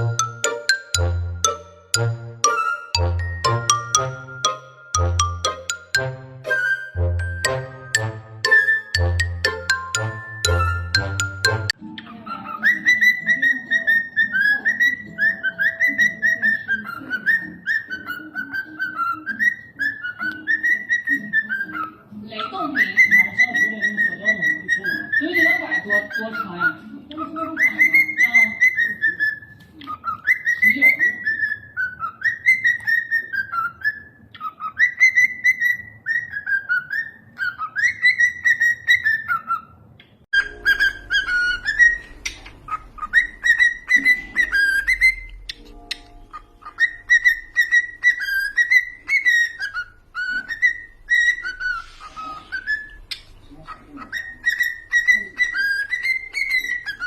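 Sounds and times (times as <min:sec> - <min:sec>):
cockatiel whistling a tune: 0:02.4 - 0:07.5, 0:08.4 - 0:11.8, 0:12.4 - 0:22.0, 0:22.6 - 0:26.7, 0:27.3 - 0:39.7, 0:40.4 - 0:53.3, 0:54.1 - 0:57.0.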